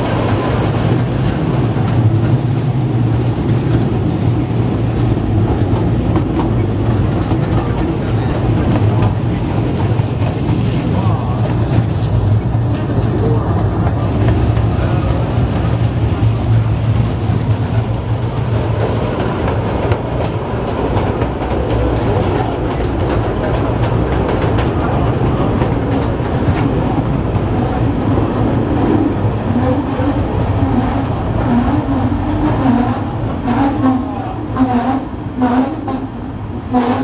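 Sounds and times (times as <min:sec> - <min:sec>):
train wheels running on rails: 0:00.0 - 0:37.0.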